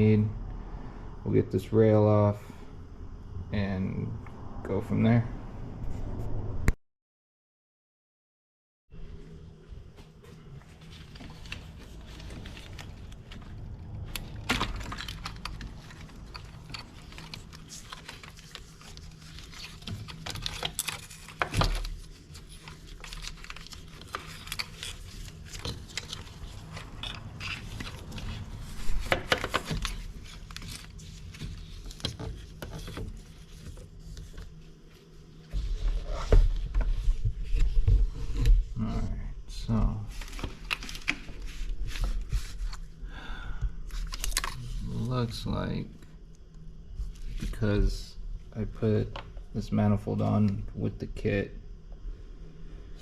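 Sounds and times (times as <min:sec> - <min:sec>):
steady low hum: 0:00.0 - 0:06.7, 0:08.9 - 0:53.0.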